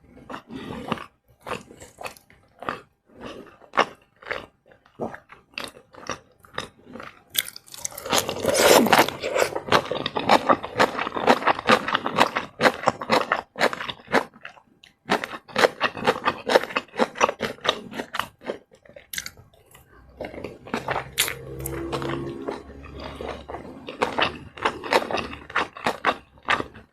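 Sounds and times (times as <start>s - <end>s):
chewing and crunching food: 0.0s - 26.9s.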